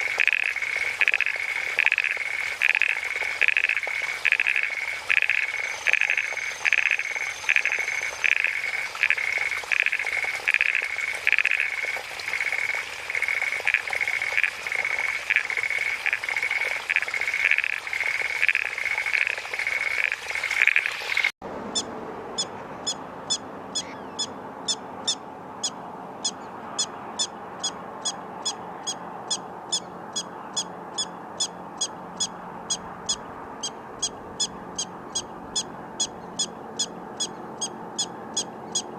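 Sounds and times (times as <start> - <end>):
repeated animal calls: 0.0 - 21.0, 21.7 - 38.9.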